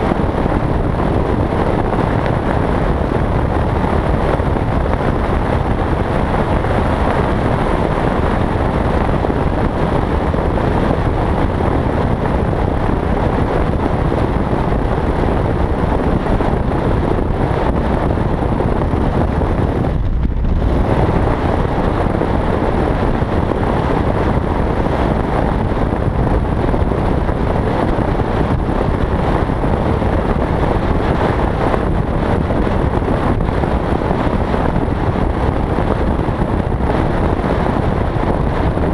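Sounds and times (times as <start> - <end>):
motorcycle engine running: 0.0 - 38.9
wind rushing over helmet: 0.0 - 38.9.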